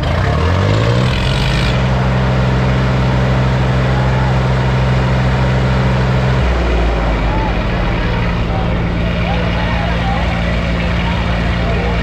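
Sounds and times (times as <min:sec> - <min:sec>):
tractor diesel engines under load: 0:00.0 - 0:12.0.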